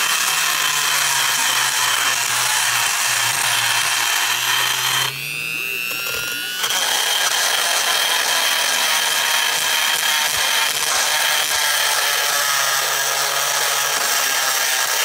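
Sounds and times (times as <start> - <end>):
rotary tool grinding metal: 0.0 - 15.0
rotary tool motor whine: 0.0 - 15.0.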